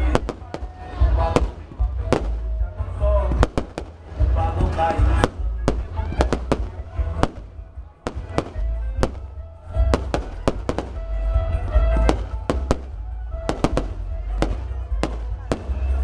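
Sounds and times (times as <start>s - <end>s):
fireworks bangs: 0.0s - 2.5s, 3.2s - 11.1s, 11.7s - 16.0s
music playing: 0.0s - 16.0s.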